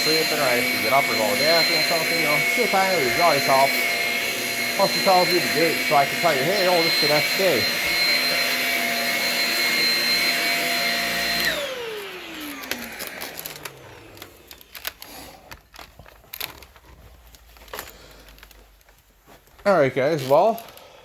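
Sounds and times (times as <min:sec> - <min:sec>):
vacuum cleaner whining: 0:00.0 - 0:18.5.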